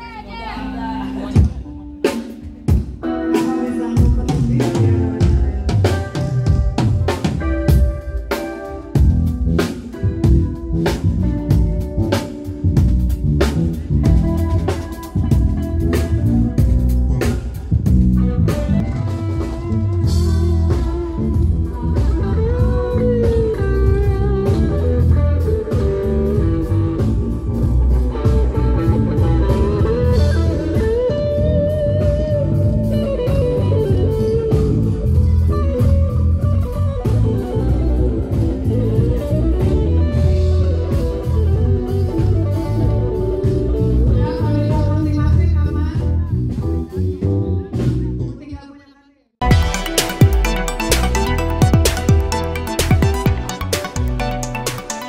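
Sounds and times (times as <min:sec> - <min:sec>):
sliding guitar lead line: 0:00.0 - 0:45.2, 0:49.4 - 0:55.0
live rock band playing: 0:00.0 - 0:48.4, 0:49.4 - 0:55.0.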